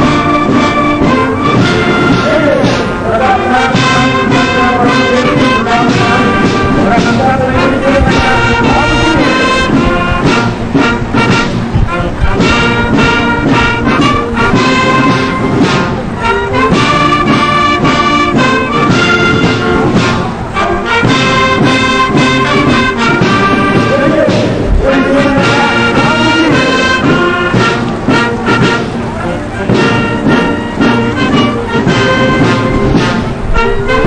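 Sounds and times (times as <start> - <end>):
brass band playing slow piece: 0.0 - 34.0.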